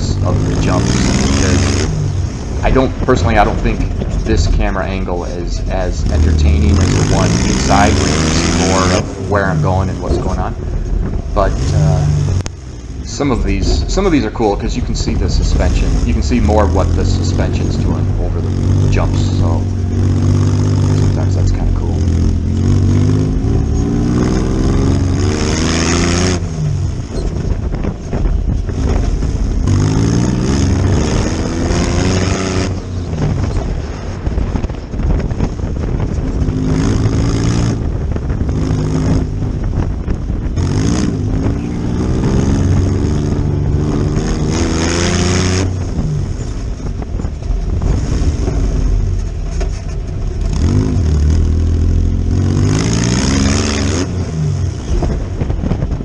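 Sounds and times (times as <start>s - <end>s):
buggy engine revving: 0.0s - 56.0s.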